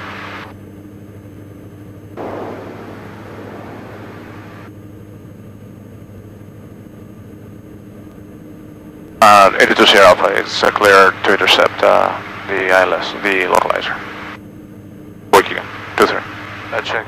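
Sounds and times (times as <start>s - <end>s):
twin aircraft engines droning: 0.0s - 17.0s.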